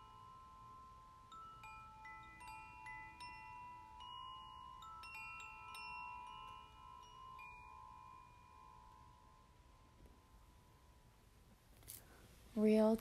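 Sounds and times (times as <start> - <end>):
faint metallic chimes: 0.0 - 11.2.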